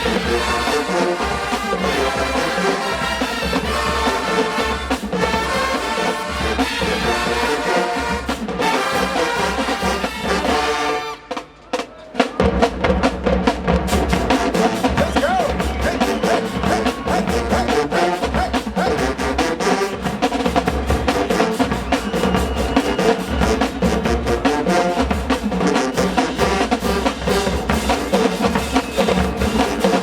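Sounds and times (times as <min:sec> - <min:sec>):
brass chords: 0:00.0 - 0:30.0
drumline fast beat: 0:00.0 - 0:30.0.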